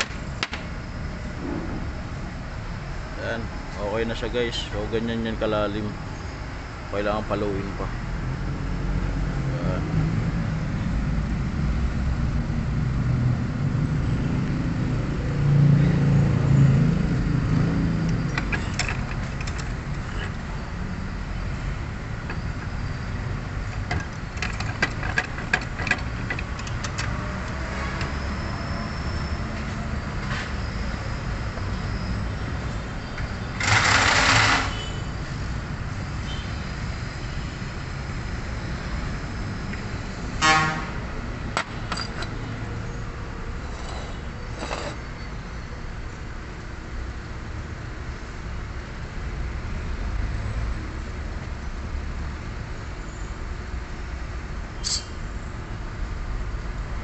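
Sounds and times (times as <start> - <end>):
outdoor traffic rumble: 0.0 - 57.0.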